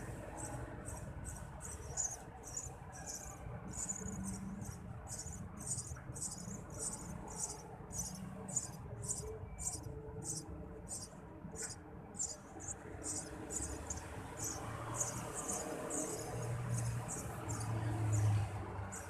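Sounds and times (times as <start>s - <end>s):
nestlings chirping: 0.3s - 18.3s.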